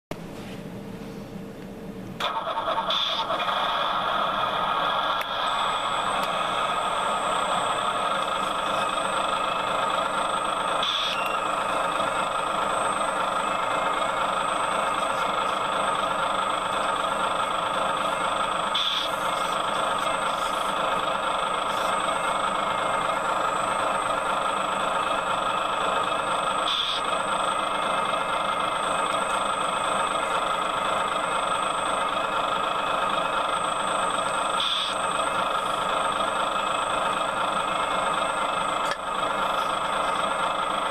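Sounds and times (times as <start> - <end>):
excavator engine running: 0.1 - 40.9.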